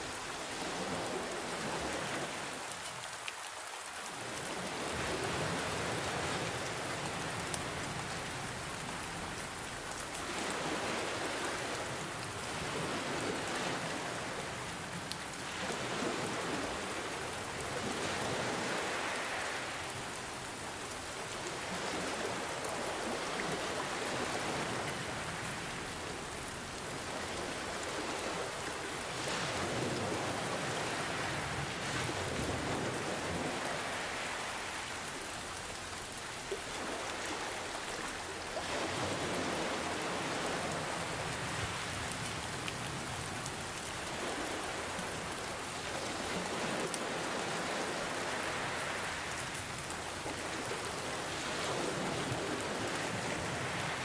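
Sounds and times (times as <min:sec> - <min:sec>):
ocean waves washing in: 0:00.0 - 0:03.2, 0:04.3 - 0:54.0
steady rain: 0:00.0 - 0:54.0.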